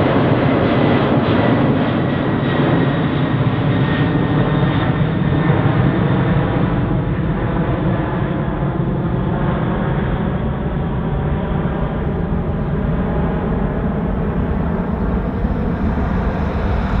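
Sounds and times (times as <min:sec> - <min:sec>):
jet engines deep rumble: 0:00.0 - 0:17.0.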